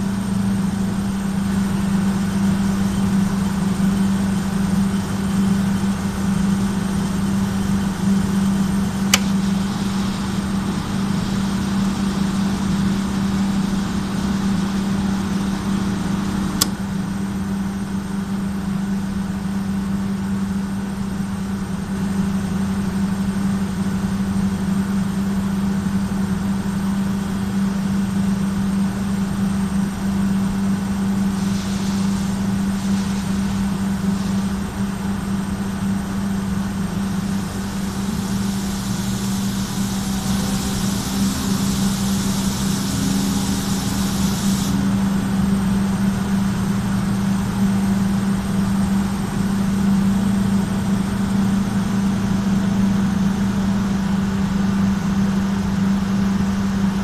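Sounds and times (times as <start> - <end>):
industrial motor humming: 0.0 - 57.0.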